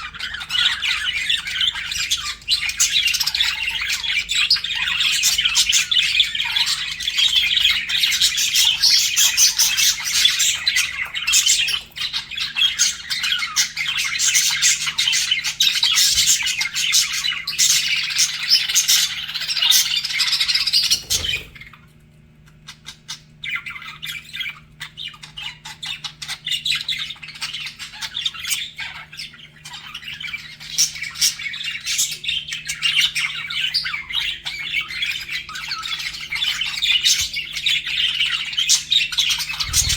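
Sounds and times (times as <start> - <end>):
budgerigars chattering: 0.0 - 21.9, 22.5 - 39.9.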